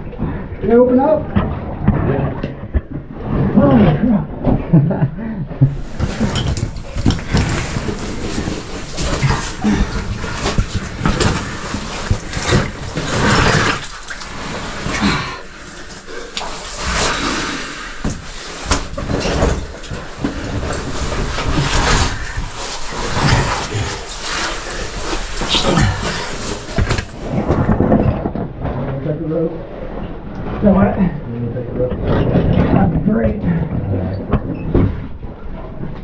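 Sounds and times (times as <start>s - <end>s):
person crawling through cave: 0.1s - 35.1s.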